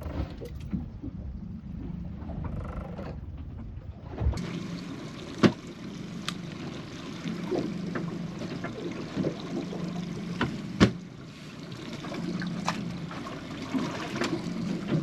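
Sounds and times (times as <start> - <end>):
boat engine low hum: 0.0 - 15.0
water against hull: 0.0 - 15.0.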